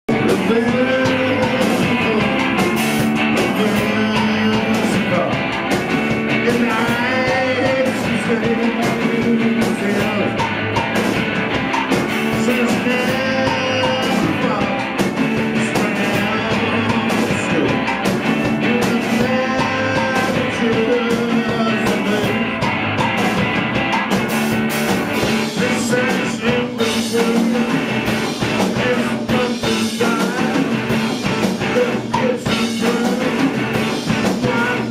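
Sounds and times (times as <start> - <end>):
bass: 0.0 - 34.9
drums: 0.0 - 34.9
person singing: 0.1 - 5.5, 6.3 - 10.5, 12.2 - 22.6, 25.2 - 34.9
guitars: 0.1 - 34.9.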